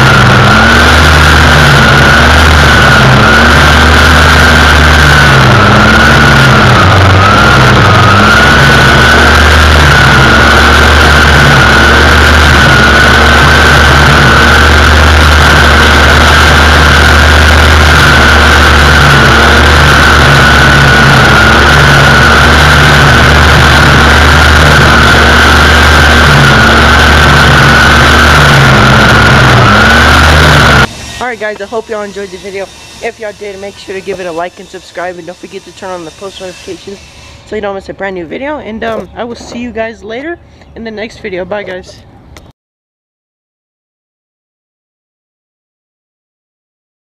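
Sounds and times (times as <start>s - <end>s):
string trimmer engine running: 0.0s - 40.0s
trimmer line whine cutting grass: 0.0s - 42.0s.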